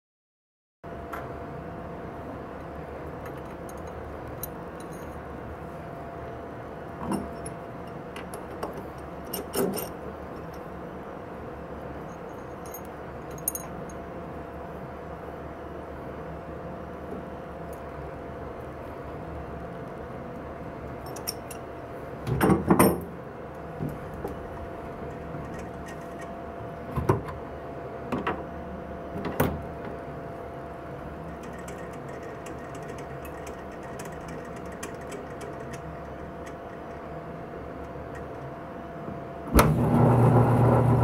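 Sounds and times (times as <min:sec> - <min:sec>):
steady background hum: 0:00.8 - 0:41.0.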